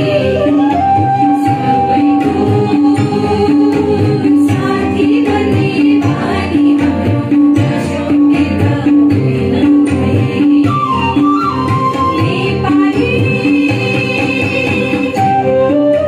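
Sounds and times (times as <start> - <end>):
women singing together: 0.0 - 15.7
amplified accompaniment with beat: 0.0 - 16.0.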